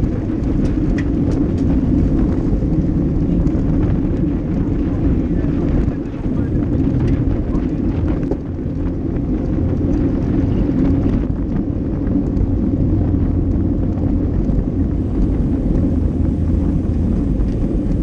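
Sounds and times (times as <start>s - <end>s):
tyre road noise: 0.0s - 18.0s
wind buffeting microphone: 0.0s - 18.0s.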